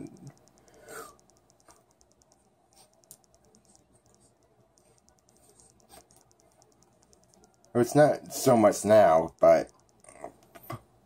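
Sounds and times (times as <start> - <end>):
faint rapid high ticking: 0.0 - 11.0
soft clicks: 0.0 - 11.0.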